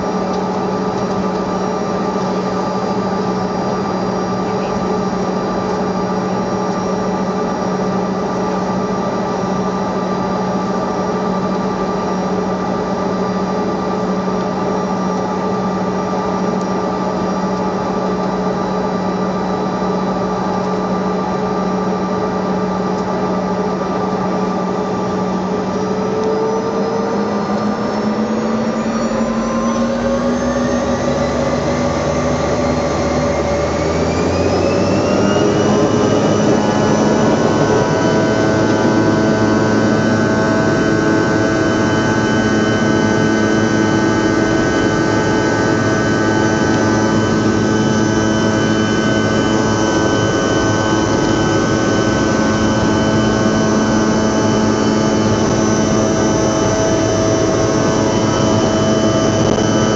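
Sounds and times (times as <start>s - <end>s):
jet engines whining: 0.0s - 59.9s
low engine rumble: 0.0s - 59.9s.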